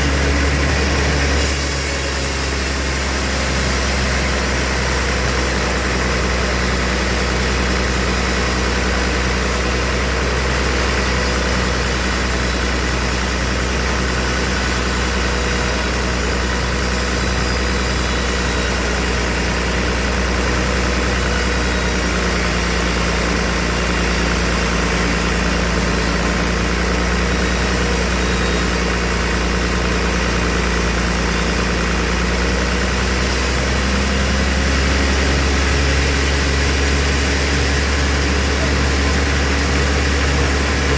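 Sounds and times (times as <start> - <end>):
band saw machinery droning: 0.0 - 40.9.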